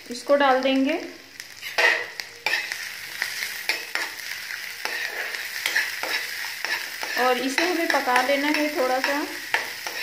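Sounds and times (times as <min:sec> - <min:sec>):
spice paste sizzling in oil: 0:00.0 - 0:10.0
metal spoon scraping a pan: 0:01.6 - 0:10.0.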